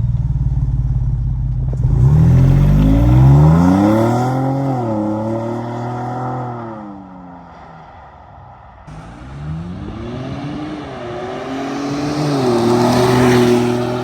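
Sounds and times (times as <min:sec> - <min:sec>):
car engine accelerating: 0:00.0 - 0:07.0, 0:08.9 - 0:14.0.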